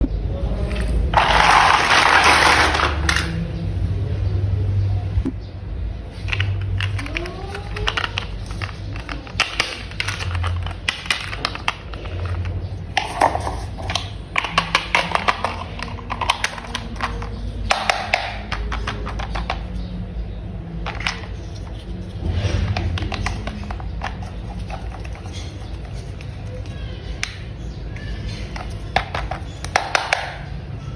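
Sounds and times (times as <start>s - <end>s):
plastic toy parts clicking: 0.7s - 3.4s, 6.2s - 19.8s, 20.8s - 27.4s, 28.3s - 30.5s.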